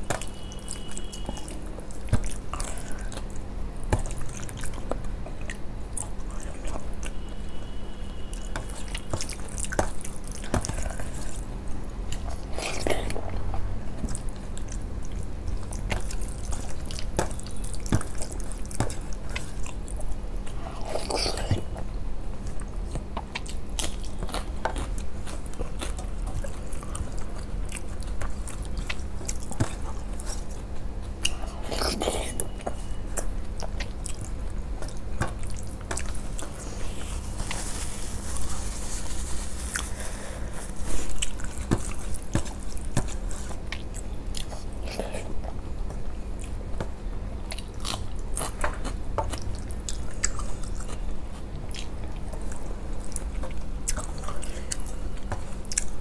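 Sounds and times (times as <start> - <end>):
chewing: 0.1 - 7.3, 8.3 - 56.0.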